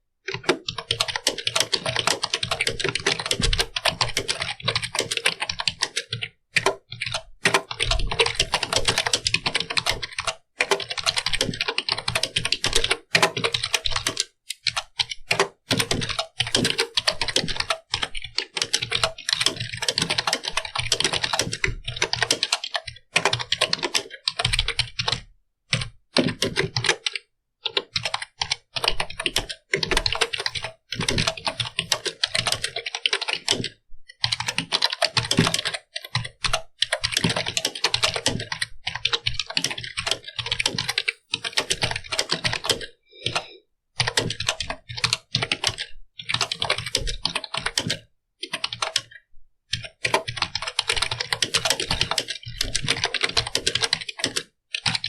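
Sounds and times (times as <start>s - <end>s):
fast typing on keyboard: 0.2s - 55.0s.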